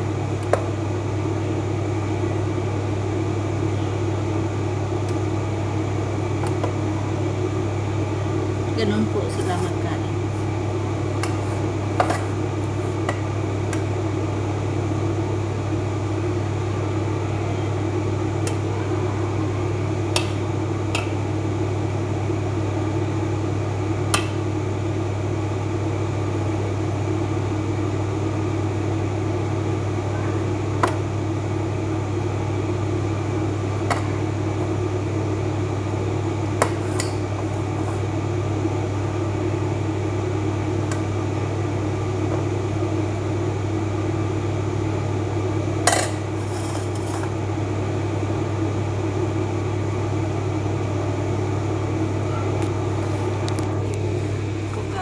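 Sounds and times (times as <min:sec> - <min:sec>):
kitchen appliance motor humming: 0:00.0 - 0:55.0.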